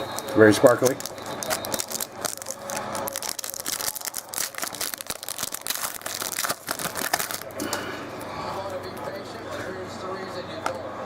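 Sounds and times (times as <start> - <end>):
cards and packaging crinkling: 0.0 - 9.2.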